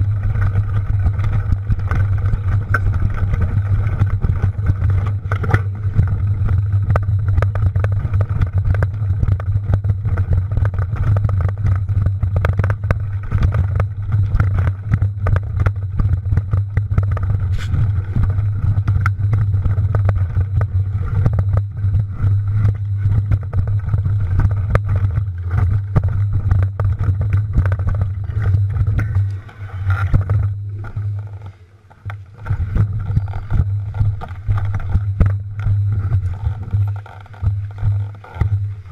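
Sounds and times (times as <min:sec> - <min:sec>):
bike clicks and rattles: 0:00.0 - 0:38.9
wind rumbling on microphone: 0:00.0 - 0:38.9.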